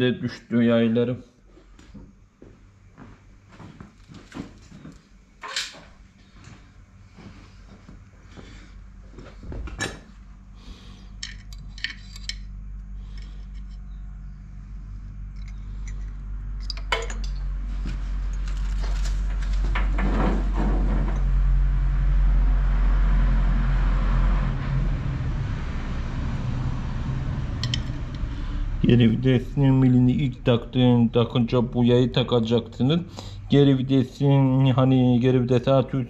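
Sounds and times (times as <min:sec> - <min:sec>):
low steady drone: 0:06.2 - 0:36.0.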